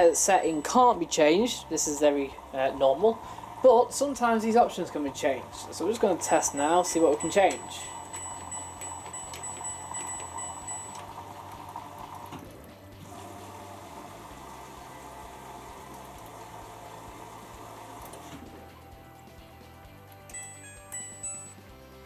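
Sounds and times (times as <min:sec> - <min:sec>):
water filling washing machine: 0:00.0 - 0:19.5.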